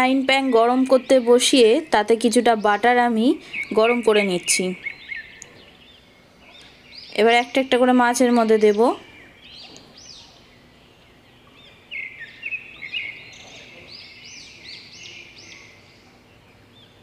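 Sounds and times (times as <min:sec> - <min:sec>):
faint steady hiss: 0:00.0 - 0:17.0
small birds chirping: 0:00.0 - 0:17.0.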